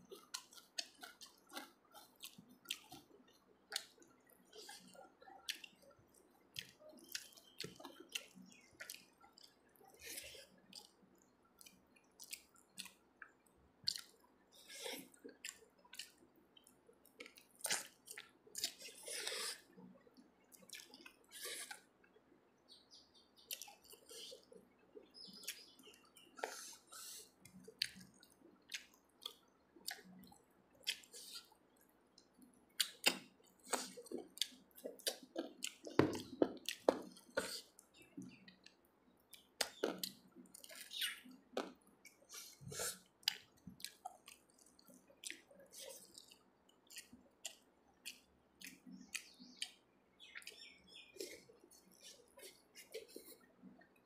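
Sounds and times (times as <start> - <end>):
wet chewing and mouth smacks: 0.1 - 22.0, 23.4 - 54.0.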